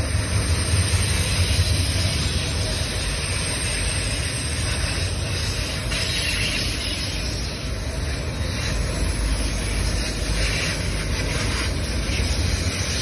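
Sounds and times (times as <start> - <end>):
freight train cars rolling past: 0.0 - 13.0.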